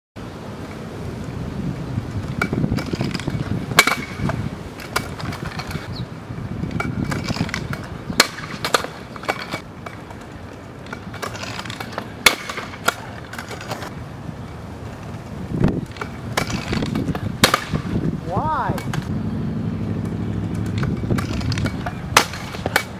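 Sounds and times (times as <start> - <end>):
scooter wheels rolling on court: 0.4 - 22.9
scooter clacking on ground: 0.6 - 6.0, 6.6 - 22.9.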